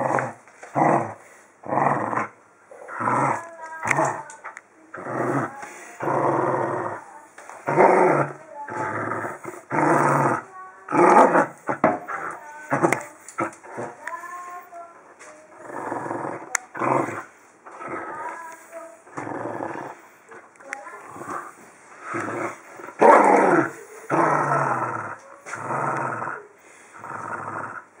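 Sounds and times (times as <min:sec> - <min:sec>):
dog growling: 0:00.0 - 0:14.7, 0:15.5 - 0:28.0.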